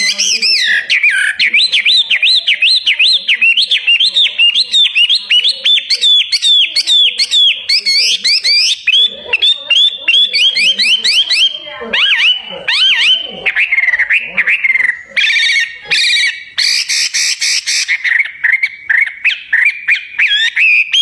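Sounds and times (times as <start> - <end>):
songbird whistling: 0.0 - 13.2, 14.0 - 21.0.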